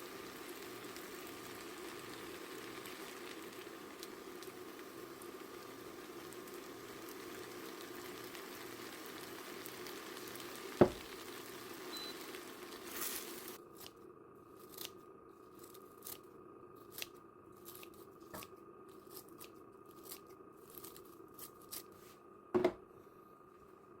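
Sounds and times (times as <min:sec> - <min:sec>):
low hum with hiss: 0:00.0 - 0:24.0.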